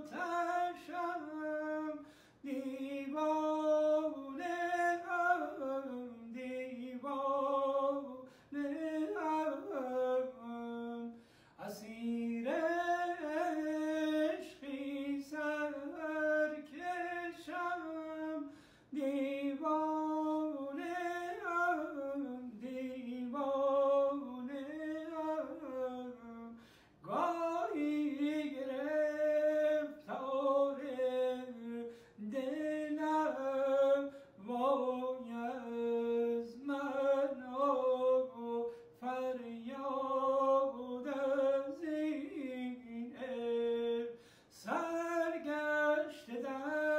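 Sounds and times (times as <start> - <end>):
man singing unaccompanied: 0.0 - 46.9.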